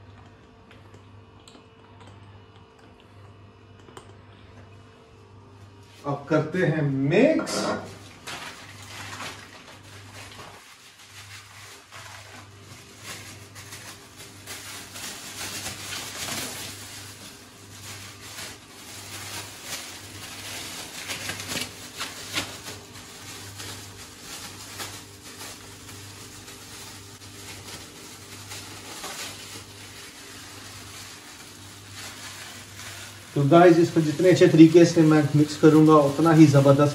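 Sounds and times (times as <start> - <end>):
plastic gloves crinkling: 7.2 - 36.9.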